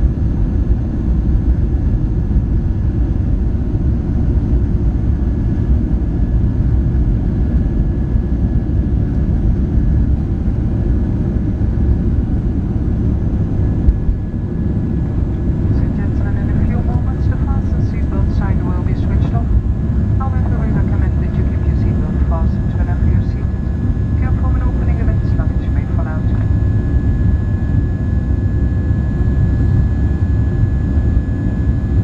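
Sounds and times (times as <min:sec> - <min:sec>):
jet engine rumble in cabin: 0:00.0 - 0:32.0.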